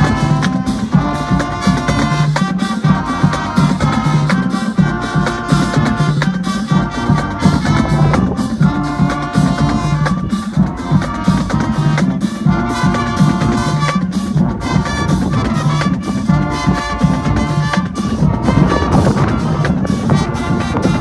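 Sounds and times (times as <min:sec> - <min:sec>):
low sousaphone bass line: 0:00.0 - 0:21.0
marching band horns: 0:00.0 - 0:21.0
steady drum strokes: 0:00.0 - 0:21.0.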